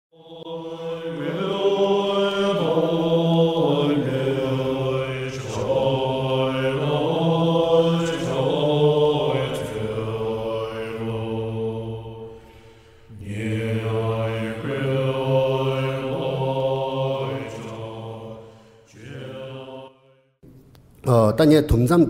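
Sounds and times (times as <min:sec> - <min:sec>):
voice chanting a prayer: 0:00.2 - 0:20.0.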